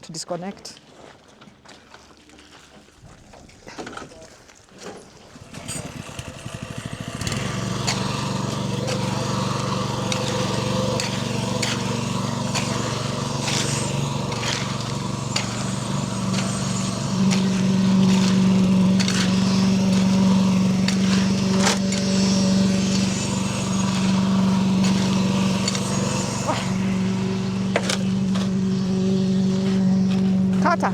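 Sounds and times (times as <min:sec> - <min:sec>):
small engine running: 0:04.9 - 0:30.9.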